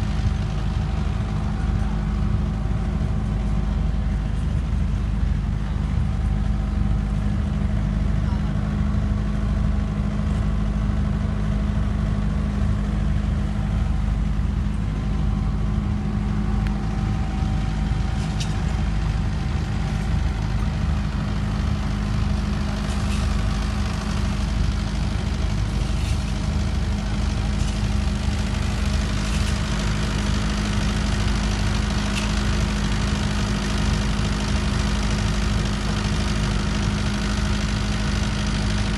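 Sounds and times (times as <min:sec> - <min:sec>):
low engine drone: 0:00.0 - 0:38.9.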